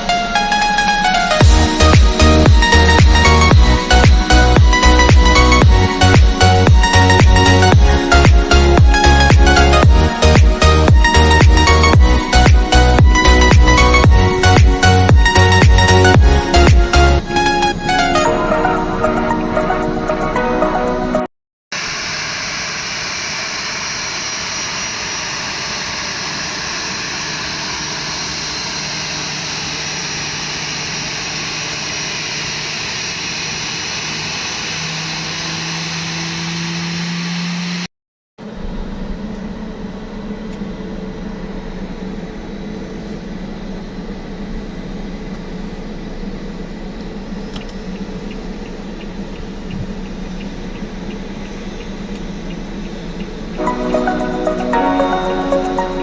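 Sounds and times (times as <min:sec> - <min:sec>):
jet engines running: 0:00.0 - 0:21.2, 0:21.8 - 0:56.0.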